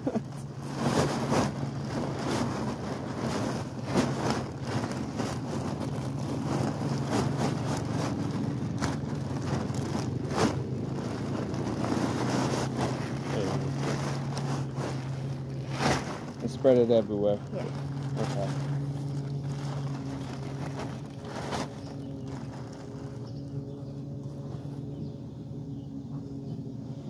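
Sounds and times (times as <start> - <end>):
plastic bag crinkling: 0.0 - 25.0
low hum: 0.0 - 27.0
mulch sliding out: 0.2 - 23.4.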